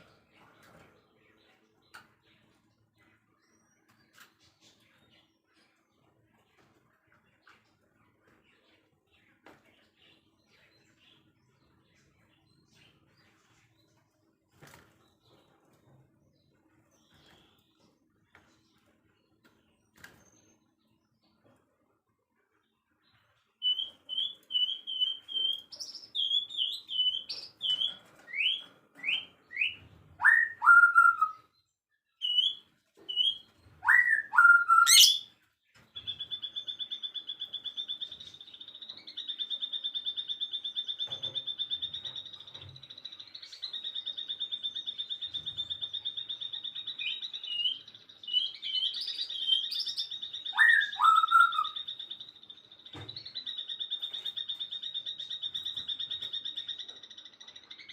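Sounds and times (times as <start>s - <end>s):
songbird chirps: 0.0s - 57.9s.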